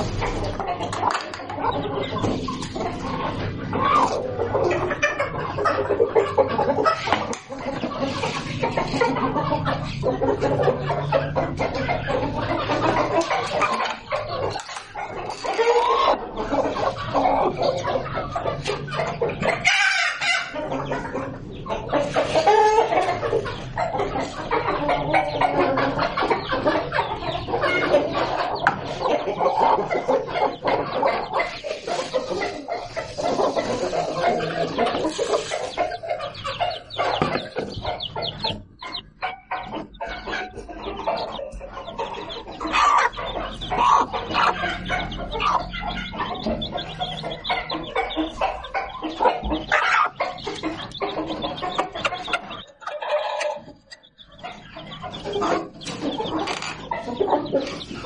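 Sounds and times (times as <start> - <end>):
chickens clucking: 0.0 - 58.0
chicks peeping: 0.0 - 58.0.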